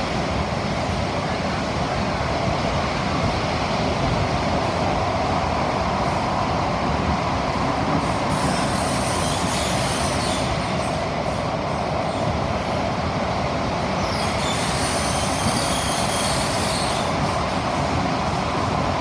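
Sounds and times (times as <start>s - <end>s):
train running noise inside carriage: 0.0s - 19.0s.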